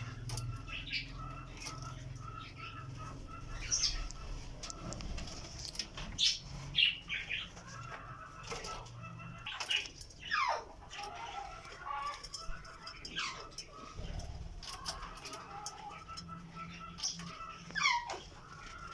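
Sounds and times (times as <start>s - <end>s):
budgerigars chirping: 0.0s - 18.9s.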